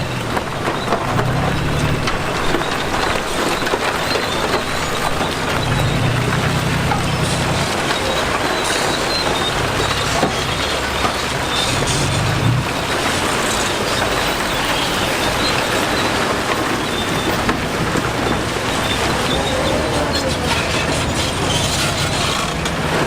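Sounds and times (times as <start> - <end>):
heavy diesel machinery running: 0.0 - 23.0.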